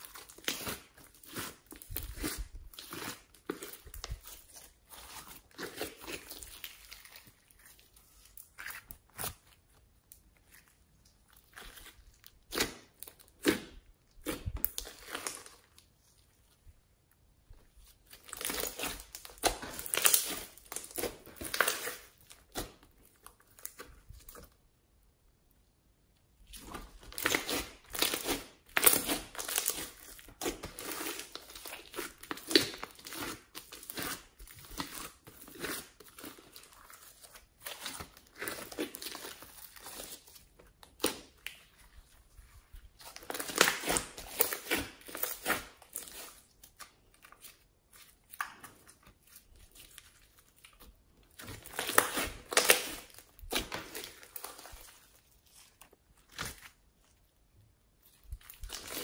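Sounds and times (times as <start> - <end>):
hands squishing sticky slime: 0.0 - 16.8, 17.4 - 24.7, 26.4 - 59.0.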